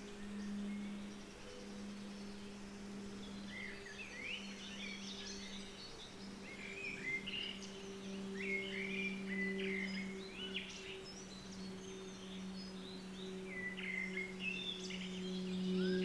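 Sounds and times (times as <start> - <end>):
small birds chirping: 0.0 - 16.0
steady low tone: 0.0 - 16.0.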